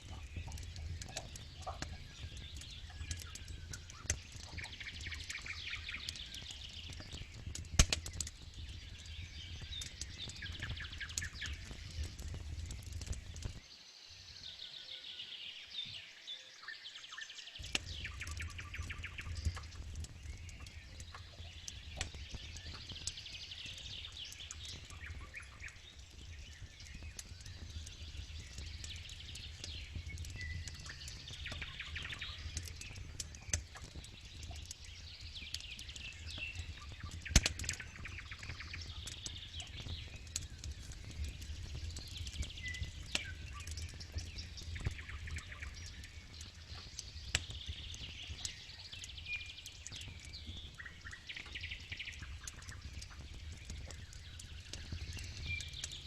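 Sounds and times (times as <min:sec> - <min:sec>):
campfire crackling and popping: 0:00.0 - 0:14.6, 0:17.1 - 0:56.0
birds singing and chirping: 0:00.0 - 0:56.0.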